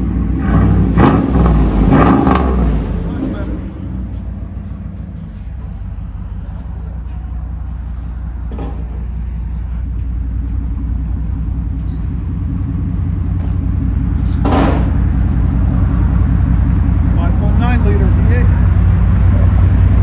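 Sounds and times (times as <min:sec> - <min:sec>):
truck engine idling: 0:02.6 - 0:20.0.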